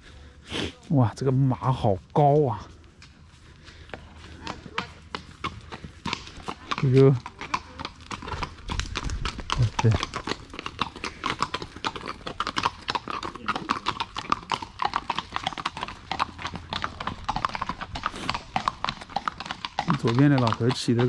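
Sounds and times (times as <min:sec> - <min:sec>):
hooves clip-clopping on asphalt: 0:00.0 - 0:21.0.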